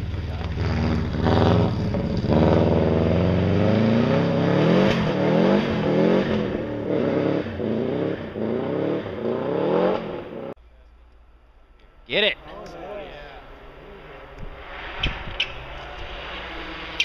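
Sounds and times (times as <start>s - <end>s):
rally car engine revving: 0.0s - 10.6s, 12.4s - 17.0s.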